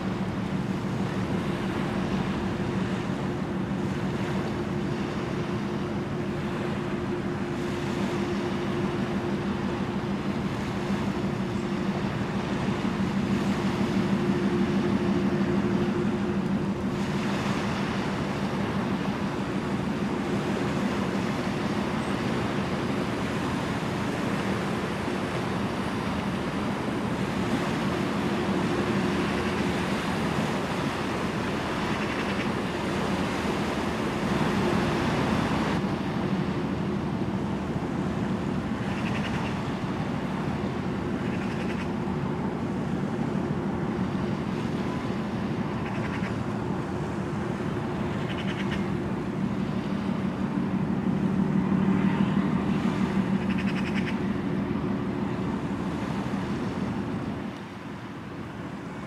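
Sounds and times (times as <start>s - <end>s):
ship engines droning: 0.0s - 59.0s
wind rumbling on microphone: 0.0s - 59.0s.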